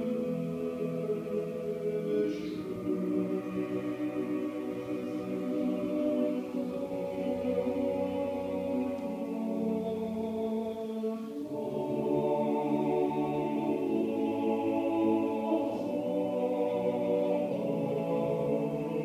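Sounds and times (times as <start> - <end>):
male choir chanting: 0.0 - 19.0.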